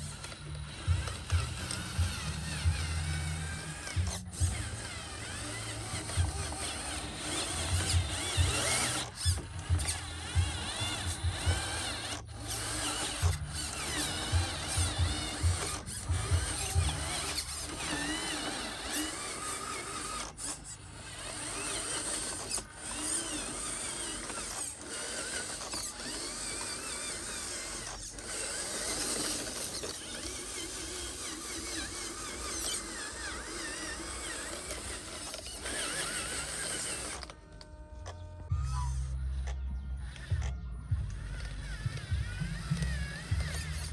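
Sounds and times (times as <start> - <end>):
small electric motors whining: 0.0 - 43.9.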